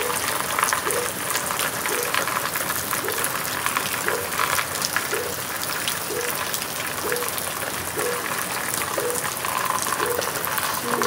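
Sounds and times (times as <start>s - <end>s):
heavy rain on hard surfaces: 0.0s - 11.0s.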